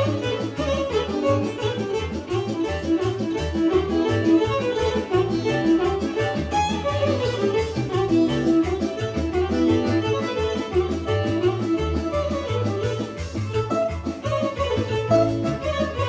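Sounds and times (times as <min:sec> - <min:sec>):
driving bass beat: 0:00.0 - 0:16.0
violin leading folk band: 0:00.0 - 0:16.0.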